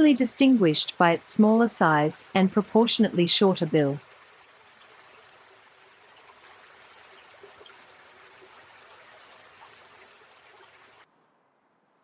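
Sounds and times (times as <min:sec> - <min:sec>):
running water rushing: 0:00.0 - 0:11.1.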